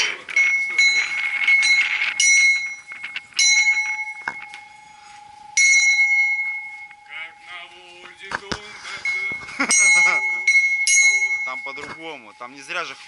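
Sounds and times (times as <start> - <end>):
small bell ringing: 0.3 - 13.0.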